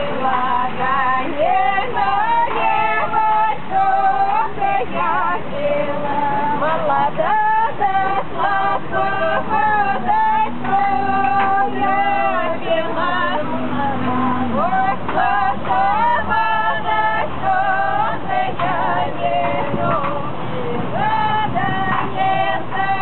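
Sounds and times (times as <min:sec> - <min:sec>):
high voices singing with vibrato: 0:00.0 - 0:23.0.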